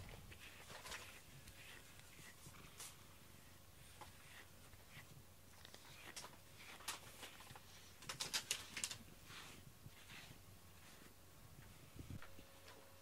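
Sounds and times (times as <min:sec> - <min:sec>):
brush raking through cat fur: 0:00.2 - 0:12.1.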